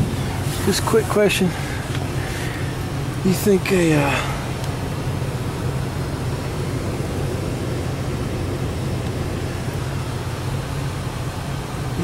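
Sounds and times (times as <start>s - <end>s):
air rushing through ducts: 0.0s - 12.0s
hvac mechanical hum: 0.0s - 12.0s.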